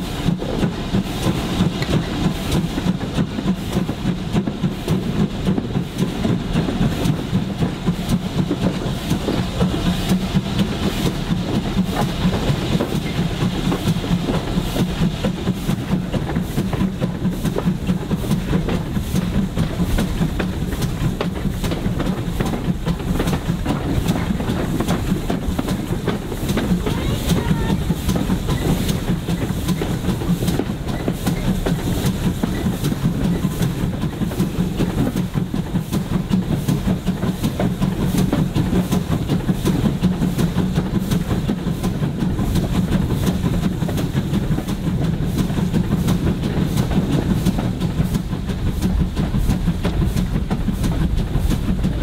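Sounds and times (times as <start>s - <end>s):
rail joint clicks: 0.0s - 52.0s
train wheels rumbling on rails: 0.0s - 52.0s.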